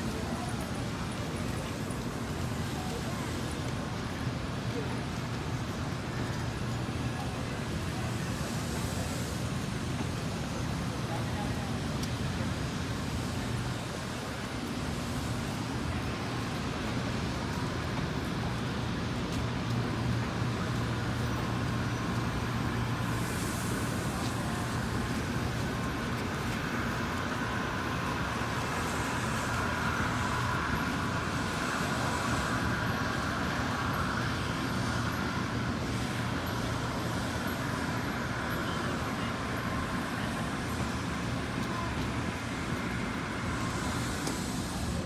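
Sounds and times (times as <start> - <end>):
high train whine: 0.0 - 45.0
train running noise: 0.0 - 45.0.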